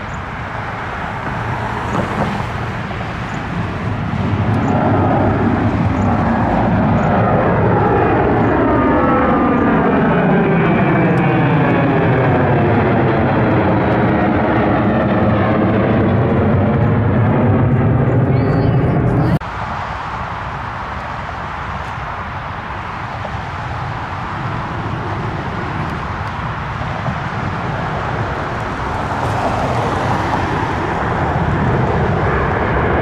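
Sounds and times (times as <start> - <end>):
airliner engines passing: 0.0 - 33.0.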